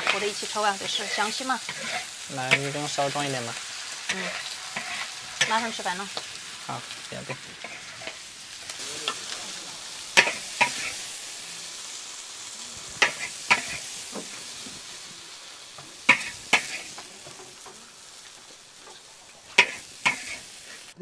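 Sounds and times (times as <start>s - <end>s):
food sizzling in hot oil: 0.0s - 21.0s
spatula scraping wok: 0.0s - 21.0s.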